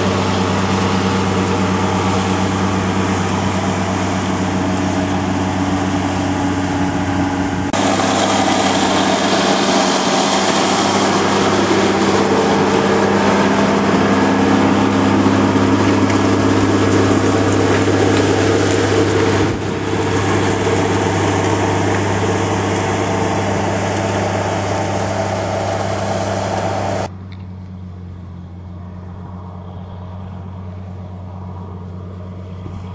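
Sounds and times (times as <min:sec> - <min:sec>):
cultivator tines churning through soil: 0:00.0 - 0:27.1
tractor diesel engine drone: 0:00.0 - 0:32.9.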